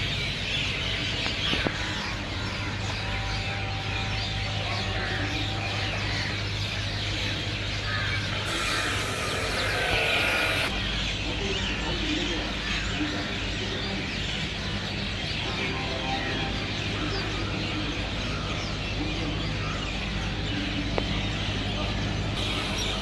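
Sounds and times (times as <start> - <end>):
small birds chirping: 0.0 - 23.0
steady low hum: 2.0 - 23.0.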